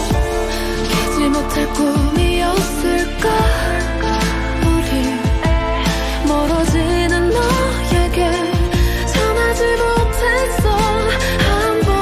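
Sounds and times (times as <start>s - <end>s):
pop music: 0.0s - 12.0s.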